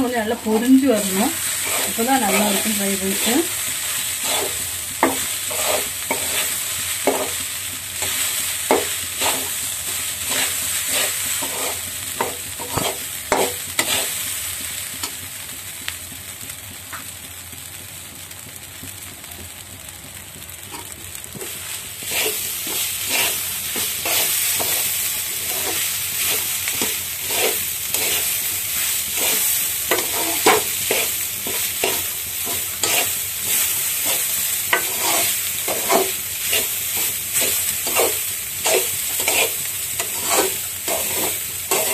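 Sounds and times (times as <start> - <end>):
fried rice sizzling in a pan: 0.0 - 41.9
metal spatula scraping a pan: 0.5 - 14.2, 20.7 - 41.9.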